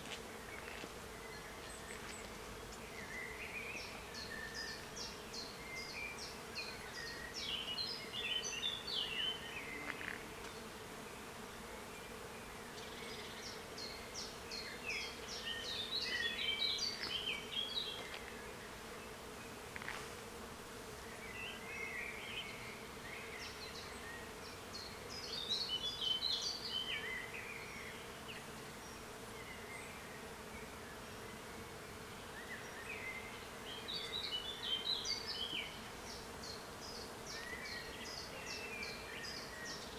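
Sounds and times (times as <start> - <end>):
songbird singing: 0.4 - 20.0, 21.0 - 39.9.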